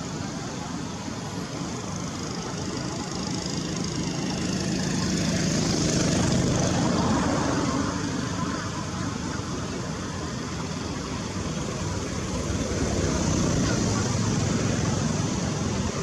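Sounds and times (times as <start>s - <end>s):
passing vehicle engine hum: 0.0s - 16.0s.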